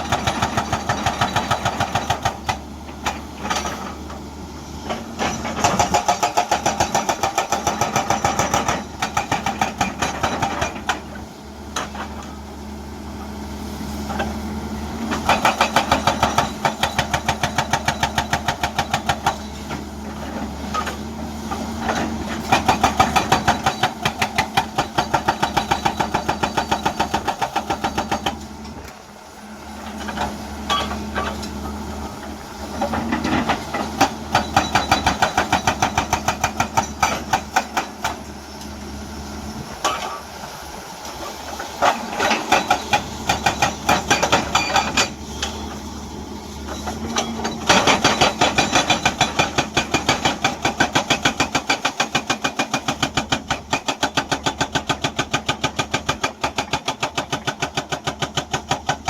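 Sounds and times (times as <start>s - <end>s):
hydraulic breaker hammering rock: 0.0s - 4.1s, 4.8s - 12.4s, 15.0s - 28.8s, 29.8s - 38.3s, 41.5s - 45.8s, 46.7s - 59.0s
excavator engine: 0.0s - 59.0s.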